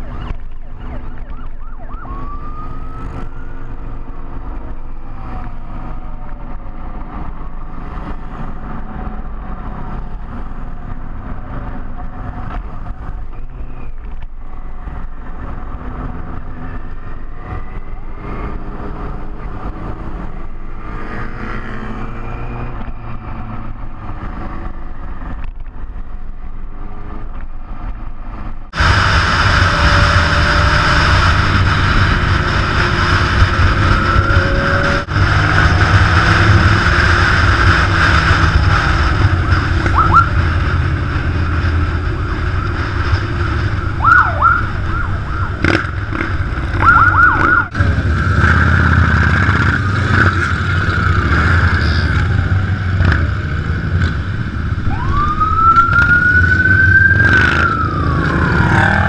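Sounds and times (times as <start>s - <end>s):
motorcycle engines rumbling: 0.0s - 59.0s.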